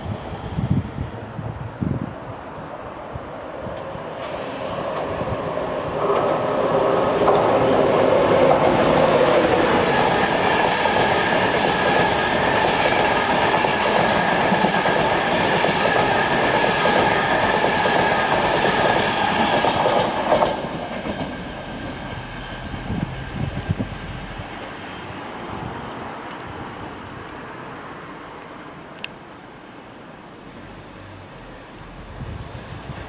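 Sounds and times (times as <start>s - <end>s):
train passing: 0.0s - 33.0s.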